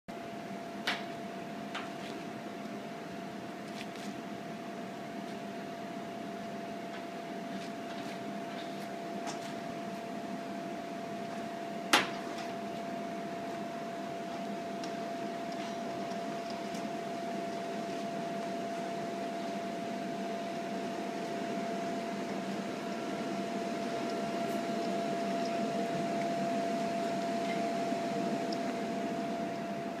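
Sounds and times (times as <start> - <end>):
mechanical hum with tone: 0.1 - 30.0.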